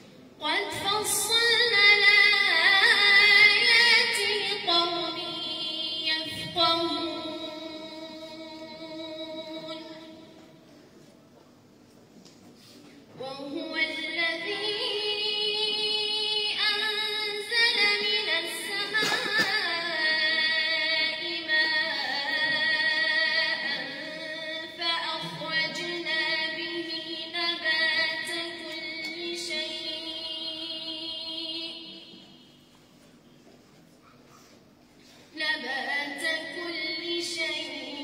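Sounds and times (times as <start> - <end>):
woman reciting melodically: 0.2 - 11.0, 12.8 - 33.0, 33.8 - 38.0.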